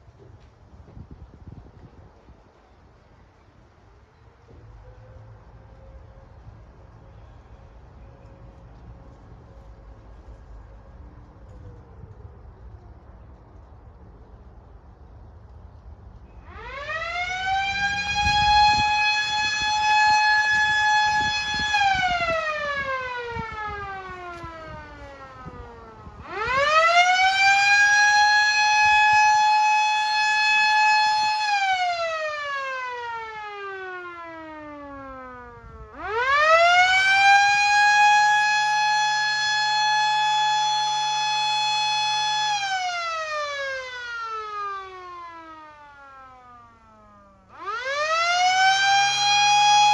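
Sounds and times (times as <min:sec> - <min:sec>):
fire siren wailing: 0:04.0 - 0:13.8, 0:16.2 - 0:49.9.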